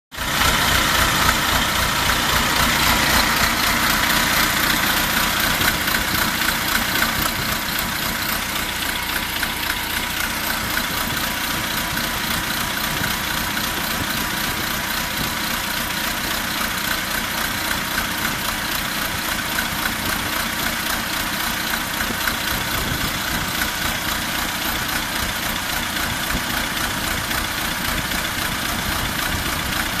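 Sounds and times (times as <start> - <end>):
diesel tractor engine clattering: 0.2 - 30.0.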